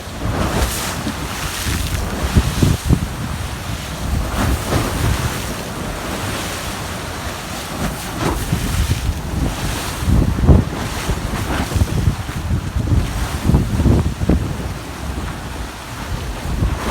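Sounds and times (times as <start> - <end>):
sea waves washing: 0.0 - 16.9
wind buffeting microphone: 0.0 - 16.9.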